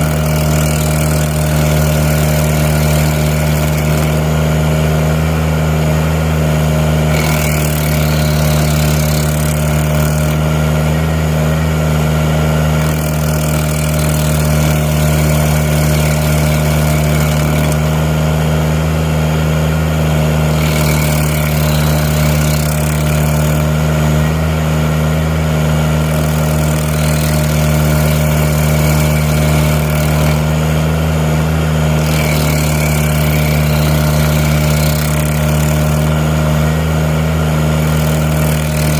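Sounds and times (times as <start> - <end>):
loader engine running under load: 0.0 - 38.9
stump grinder hissing: 0.0 - 38.9.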